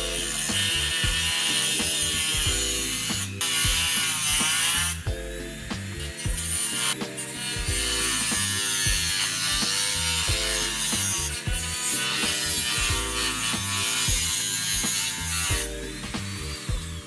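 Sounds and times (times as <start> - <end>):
background music with beat: 0.0 - 17.0
rotary tool cutting whine: 0.0 - 17.0.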